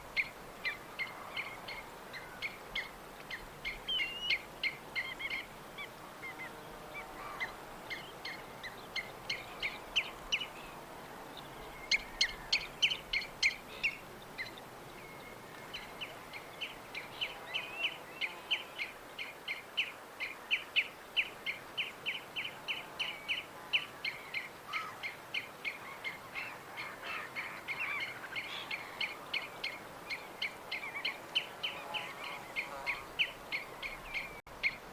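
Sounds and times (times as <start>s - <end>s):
faint steady hiss: 0.0s - 34.9s.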